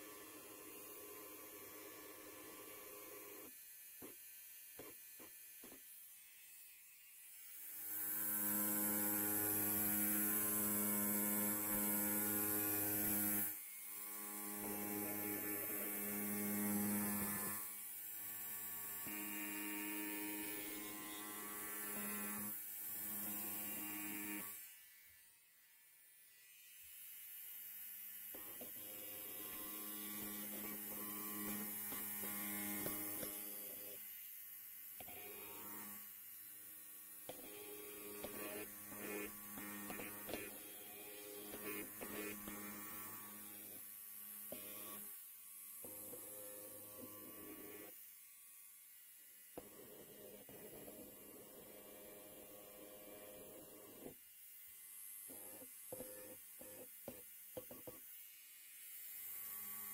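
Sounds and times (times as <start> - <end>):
electric hair clippers buzzing: 0.0 - 59.9.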